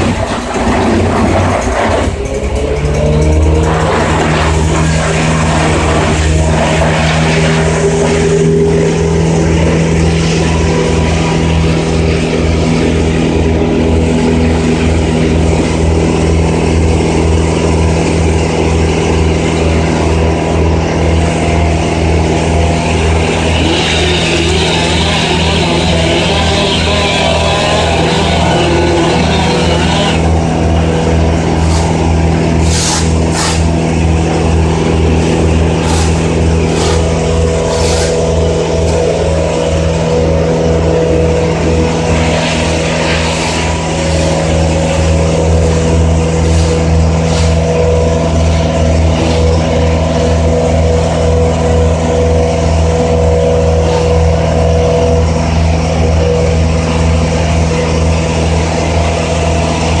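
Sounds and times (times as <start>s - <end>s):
engine running steadily: 0.0s - 60.0s.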